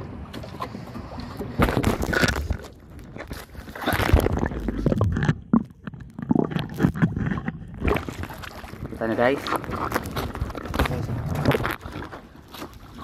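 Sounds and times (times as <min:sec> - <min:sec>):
seawater splashing and rushing: 0:00.0 - 0:05.3, 0:06.5 - 0:13.0.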